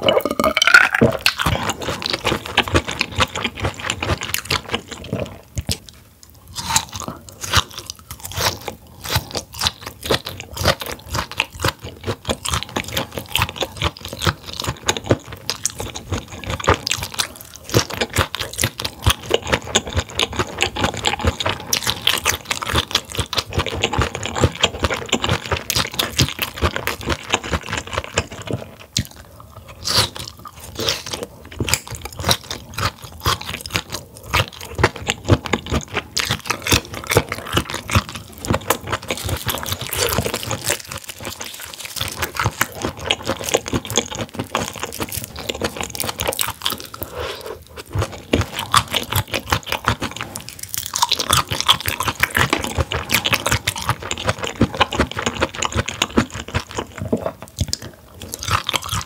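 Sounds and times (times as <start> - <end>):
chewing crunchy food: 0.0 - 59.0.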